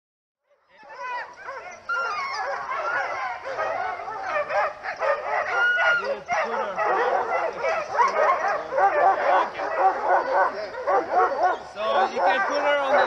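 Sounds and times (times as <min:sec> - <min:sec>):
dogs yipping whining and barking: 0:00.5 - 0:13.0.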